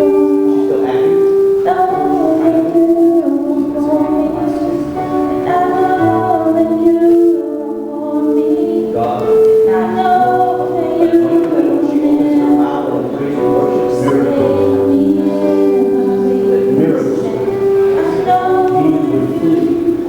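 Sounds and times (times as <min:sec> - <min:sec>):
instrumental backing: 0:00.0 - 0:20.0
voices singing held notes: 0:00.0 - 0:20.0.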